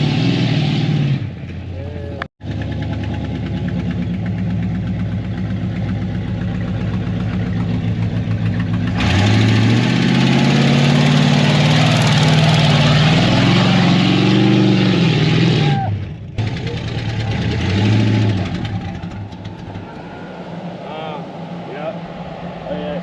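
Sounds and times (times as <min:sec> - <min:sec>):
pickup truck engine running: 0:02.4 - 0:15.4, 0:16.1 - 0:23.0.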